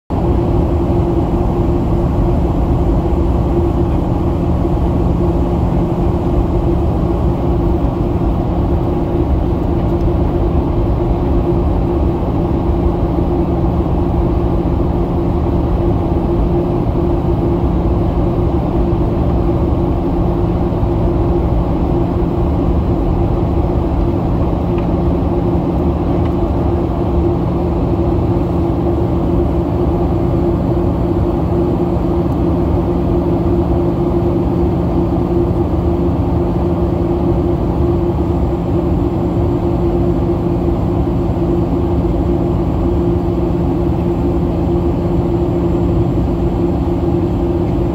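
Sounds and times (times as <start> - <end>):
airplane cabin drone: 0.1 - 47.9.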